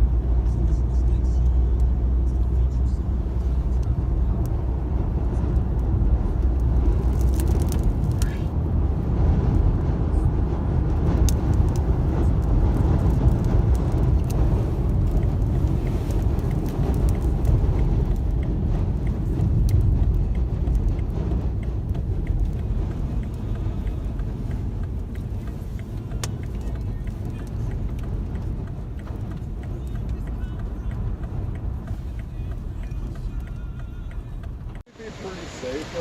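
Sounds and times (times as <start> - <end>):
wind buffeting a car: 1.8 - 36.0.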